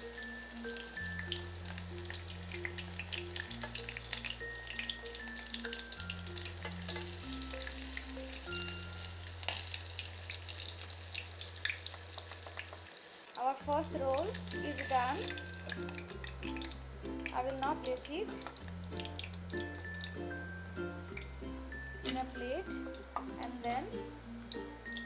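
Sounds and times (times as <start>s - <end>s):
background music sustained notes: 0.0s - 12.3s, 13.4s - 25.0s
hot oil sizzling and popping: 0.0s - 25.0s.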